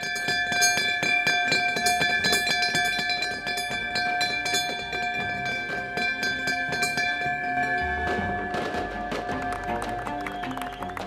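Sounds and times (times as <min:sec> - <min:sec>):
bell struck with wooden gavels: 0:00.0 - 0:09.5.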